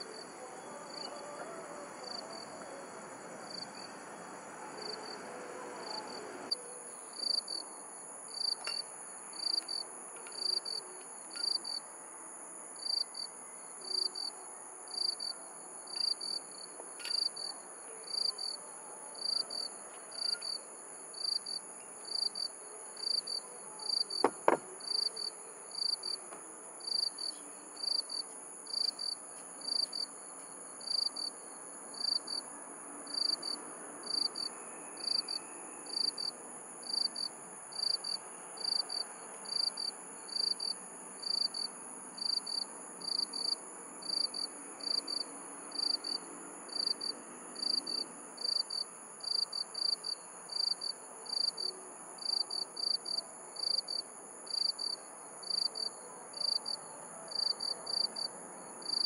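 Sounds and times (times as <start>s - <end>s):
continuous insect trills: 0.0s - 59.0s.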